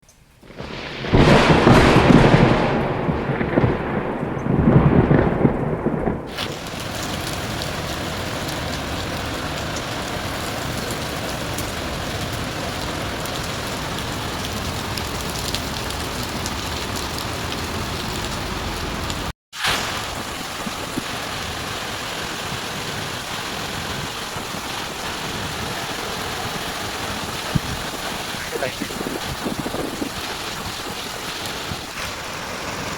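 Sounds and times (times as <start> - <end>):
heavy rain pouring: 0.4 - 32.9
rumble of thunder: 0.4 - 32.9.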